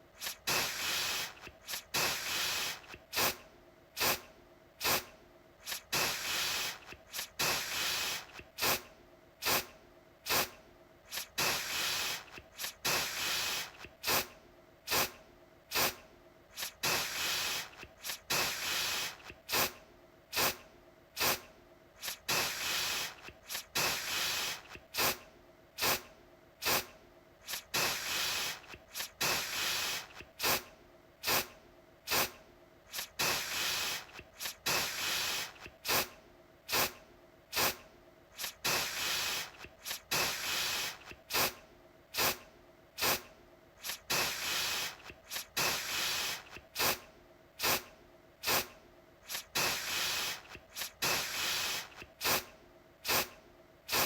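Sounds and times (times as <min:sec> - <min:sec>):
aerosol can spraying: 0:00.2 - 0:03.4, 0:04.0 - 0:09.7, 0:10.3 - 0:14.3, 0:14.9 - 0:20.6, 0:21.2 - 0:25.2, 0:25.8 - 0:31.5, 0:32.1 - 0:32.3, 0:32.9 - 0:37.8, 0:38.4 - 0:41.6, 0:42.2 - 0:42.4, 0:43.0 - 0:47.0, 0:47.6 - 0:54.0.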